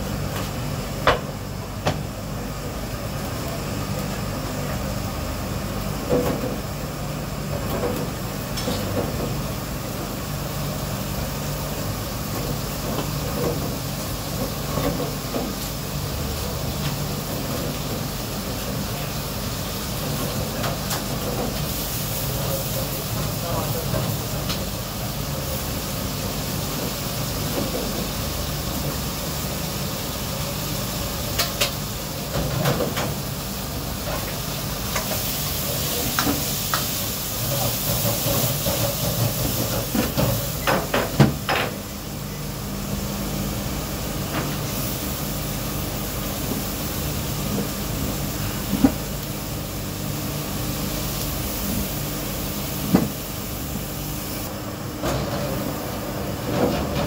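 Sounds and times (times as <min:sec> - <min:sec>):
hiss and hum of kitchen equipment: 0:00.0 - 0:57.0.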